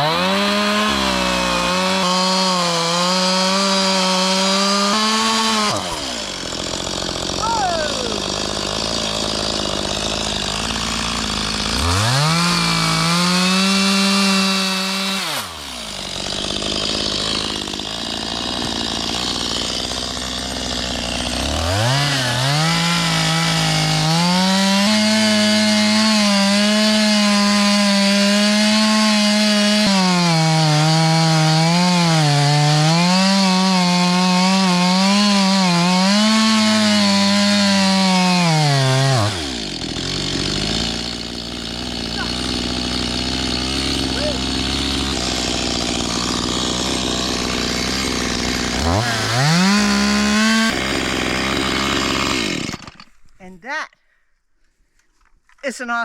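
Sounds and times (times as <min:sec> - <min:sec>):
chainsaw revving and cutting: 0:00.0 - 0:53.2.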